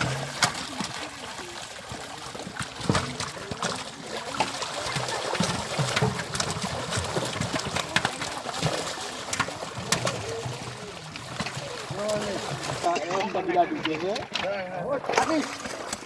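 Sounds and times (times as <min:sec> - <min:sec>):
pond water splashing: 0:00.0 - 0:16.0.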